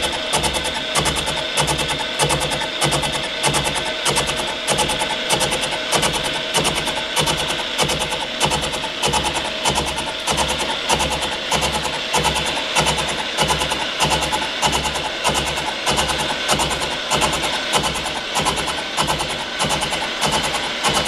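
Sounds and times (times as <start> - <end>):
milling machine cutting metal: 0.0 - 21.0.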